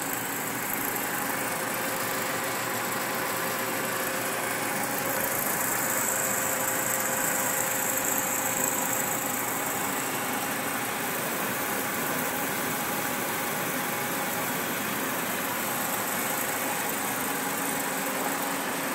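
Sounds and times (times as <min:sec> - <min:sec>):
film projector running: 0:00.0 - 0:18.9.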